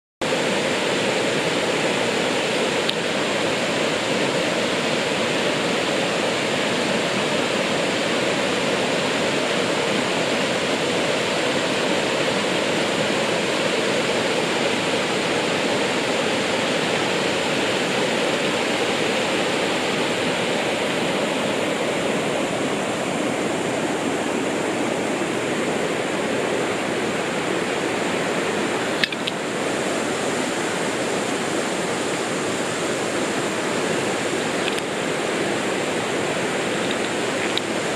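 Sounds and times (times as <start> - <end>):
waterfall roaring: 0.2 - 37.9.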